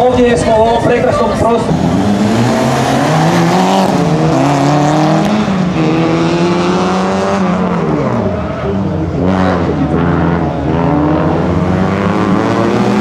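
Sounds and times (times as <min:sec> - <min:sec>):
car engine accelerating hard: 0:00.4 - 0:13.0.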